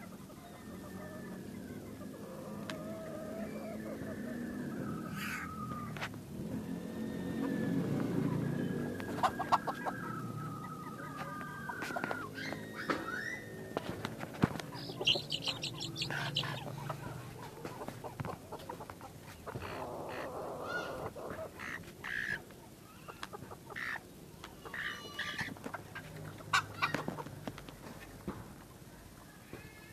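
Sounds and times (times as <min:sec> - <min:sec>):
high repeated chicken calls: 0:00.0 - 0:24.0, 0:24.6 - 0:27.2
chickens clucking: 0:00.0 - 0:29.3.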